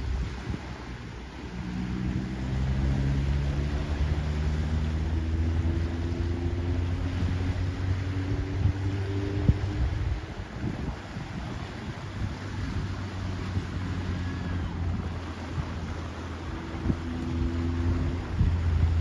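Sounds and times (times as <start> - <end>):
engine humming: 0.0 - 19.0
wind rumble on microphone: 0.0 - 19.0.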